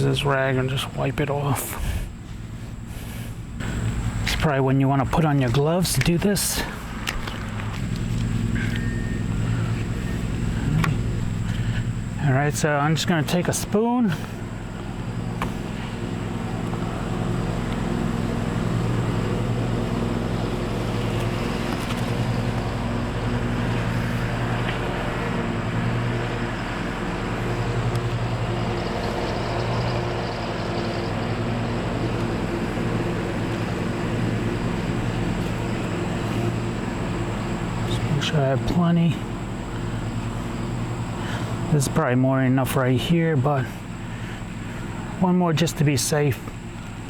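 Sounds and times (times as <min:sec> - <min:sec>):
faint high whine: 0:00.0 - 0:46.9
low motor drone: 0:00.0 - 0:47.0.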